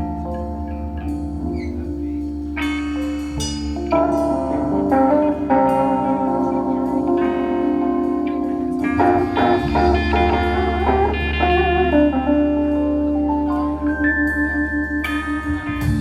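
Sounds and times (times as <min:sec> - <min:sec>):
deep low note: 0:00.0 - 0:16.0
guitar notes: 0:00.0 - 0:16.0.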